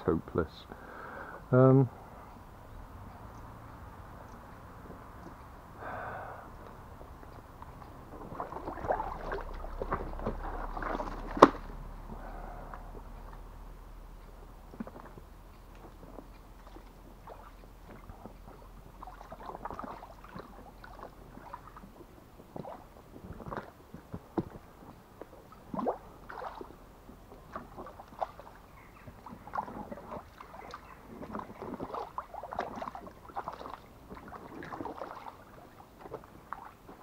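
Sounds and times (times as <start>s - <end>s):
boots sloshing through water: 6.4s - 13.5s, 14.1s - 37.0s.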